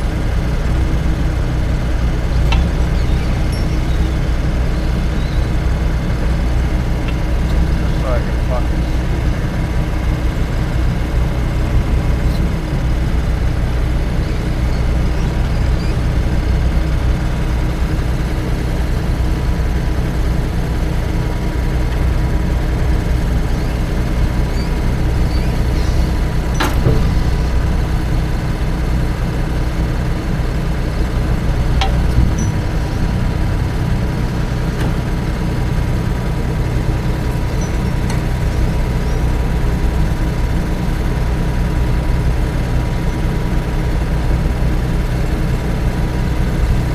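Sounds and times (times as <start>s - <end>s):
engine humming steadily: 0.0s - 46.9s.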